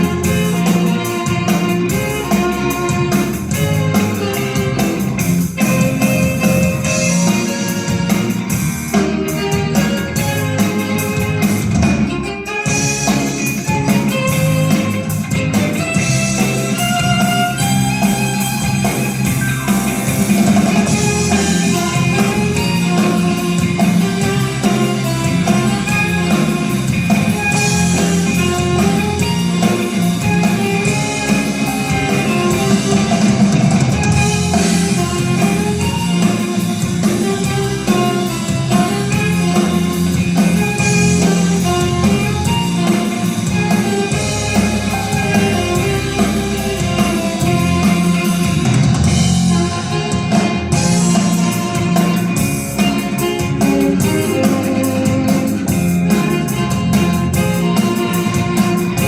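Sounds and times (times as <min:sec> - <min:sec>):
music with guitar and drums: 0:00.0 - 0:59.0.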